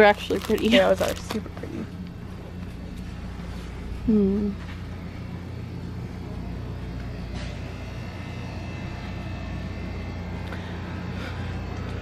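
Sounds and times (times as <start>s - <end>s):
low hum and rumble: 0.0s - 12.0s.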